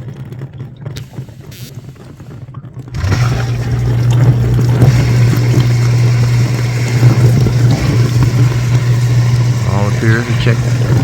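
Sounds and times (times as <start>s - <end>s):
dishwasher pump humming: 0.0s - 11.0s
water sloshing and spraying: 0.0s - 11.0s.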